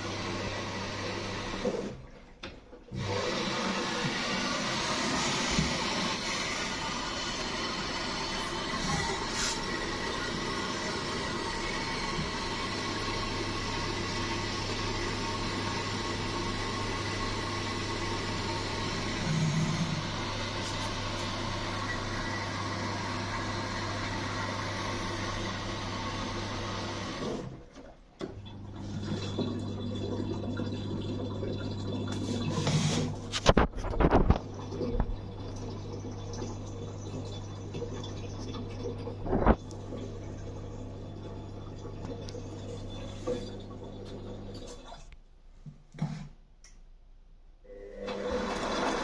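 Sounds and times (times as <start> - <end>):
washing machine low hum: 0.0 - 45.2, 47.6 - 49.0
water rushing in washing machine: 0.0 - 45.2, 47.7 - 49.0.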